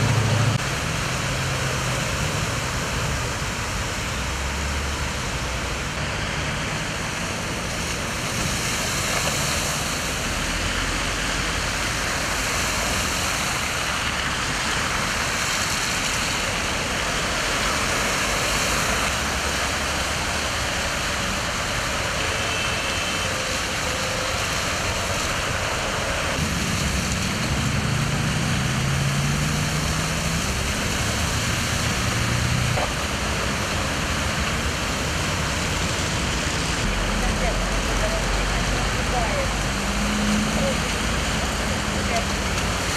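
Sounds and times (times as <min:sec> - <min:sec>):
cars splashing through water: 0:00.0 - 0:42.9.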